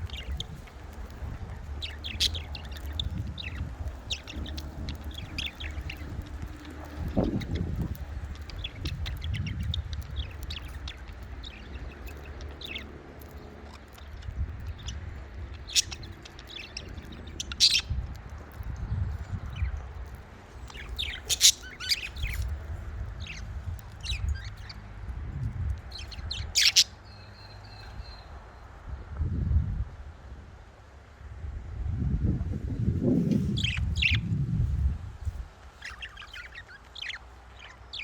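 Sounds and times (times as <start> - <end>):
budgerigars chirping and squawking: 0.0 - 24.9, 25.7 - 28.3, 33.3 - 34.3, 35.7 - 38.0
steady low rumble: 0.0 - 38.0.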